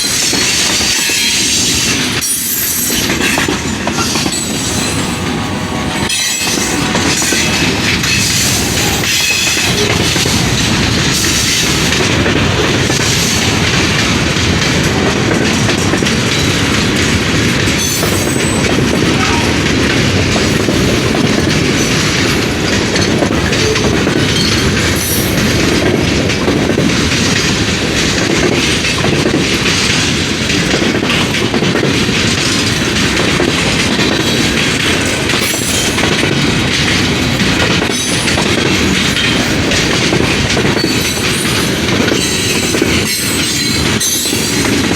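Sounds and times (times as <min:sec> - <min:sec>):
steel wheels rumbling on rail: 0:00.0 - 0:44.9.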